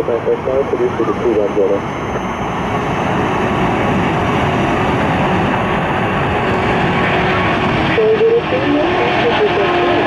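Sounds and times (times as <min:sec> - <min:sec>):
jet engines at takeoff power: 0:00.0 - 0:10.0.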